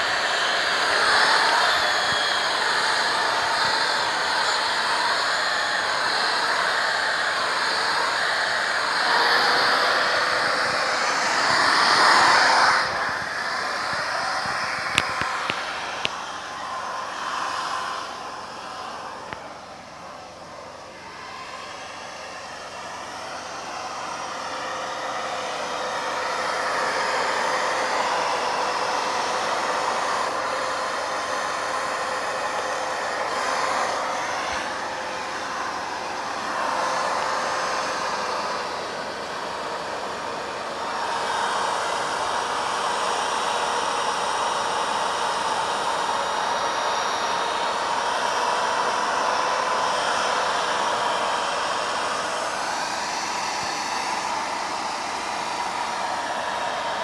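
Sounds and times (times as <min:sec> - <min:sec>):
electric drill whining: 0:00.0 - 0:57.0.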